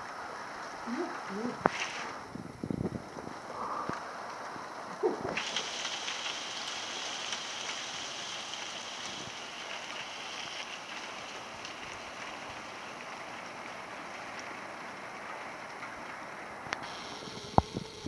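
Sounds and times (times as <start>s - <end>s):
hail falling on concrete: 0.0s - 18.0s.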